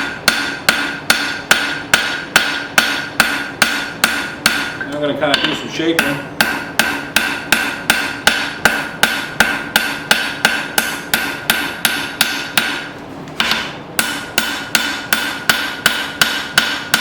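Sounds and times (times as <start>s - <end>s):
hammer ringing on anvil: 0.0s - 17.0s.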